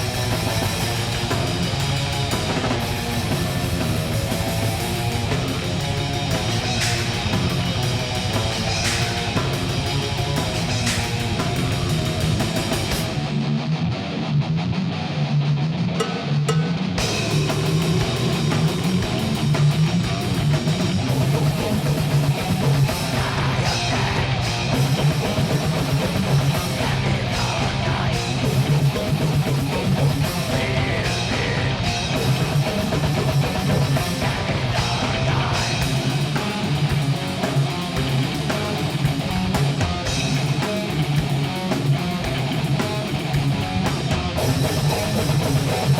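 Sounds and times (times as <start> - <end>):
rock music with electric guitar: 0.0 - 45.9.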